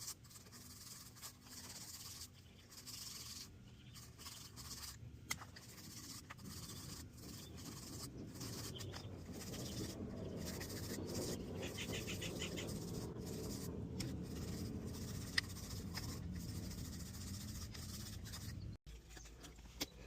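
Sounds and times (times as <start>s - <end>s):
hands scratching and rubbing pipe: 0.0s - 19.6s.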